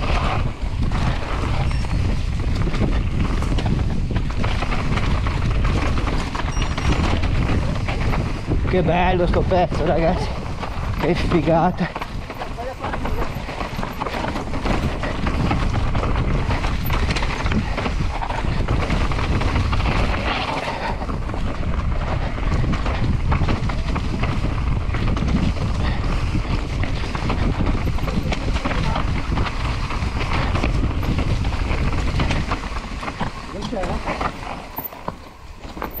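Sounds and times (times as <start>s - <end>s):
bike knocks and rattles: 0.0s - 36.0s
wind buffeting microphone: 0.0s - 36.0s.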